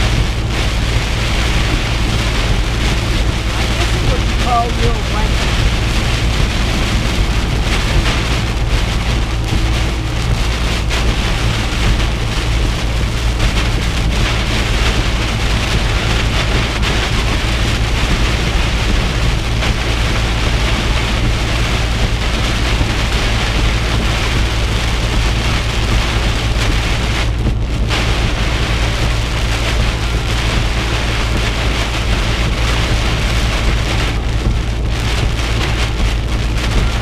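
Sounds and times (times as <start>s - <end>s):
heavy rain on a truck: 0.0s - 37.0s
low engine and road rumble: 0.0s - 37.0s.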